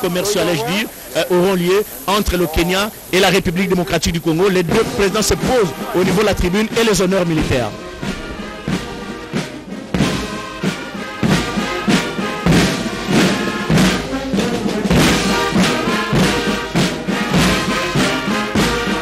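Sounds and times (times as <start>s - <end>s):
brass band chords: 0.0s - 19.0s
steady drumbeat: 0.0s - 19.0s.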